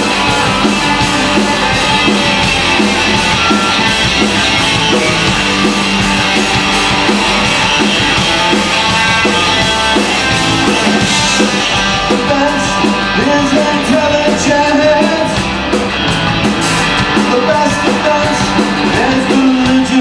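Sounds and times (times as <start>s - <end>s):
distorted electric guitar: 0.0s - 20.0s
rock band instrumental: 0.0s - 20.0s.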